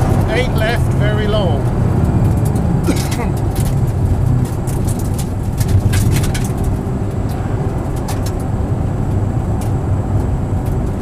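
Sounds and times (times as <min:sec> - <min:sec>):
car engine running at speed: 0:00.0 - 0:11.0
tyre and road noise: 0:00.0 - 0:11.0.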